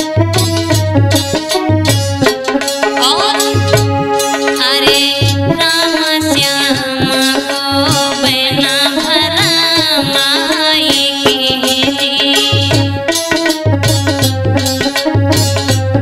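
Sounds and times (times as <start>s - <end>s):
hand drum strokes: 0.0s - 15.8s
ornamented melodic line: 0.0s - 16.0s.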